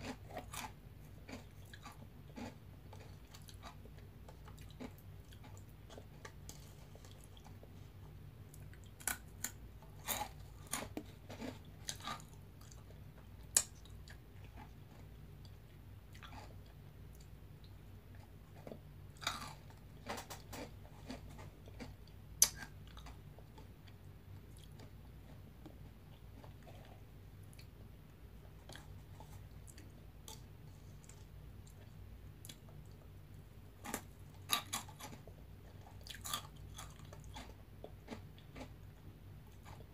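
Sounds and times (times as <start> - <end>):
crunchy snack being chewed: 0.0 - 7.7, 8.5 - 17.3, 18.1 - 27.7, 28.5 - 33.1, 33.8 - 39.9
steady low hum: 0.0 - 39.9.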